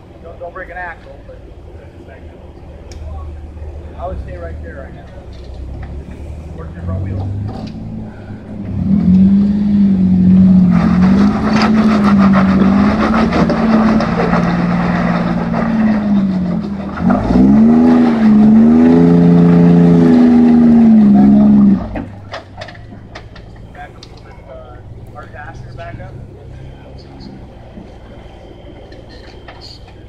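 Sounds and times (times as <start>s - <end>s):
engine revving under load: 2.9s - 30.0s.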